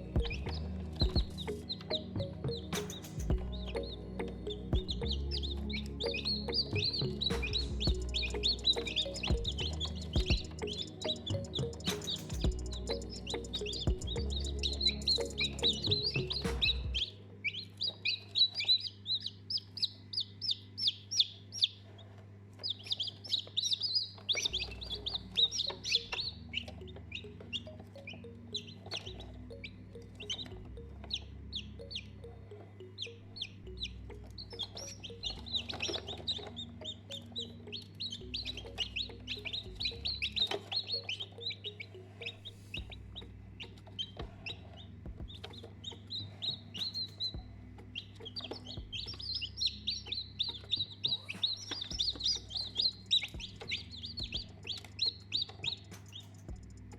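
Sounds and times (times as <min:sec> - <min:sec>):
baby chicks peeping: 0:00.0 - 0:56.9.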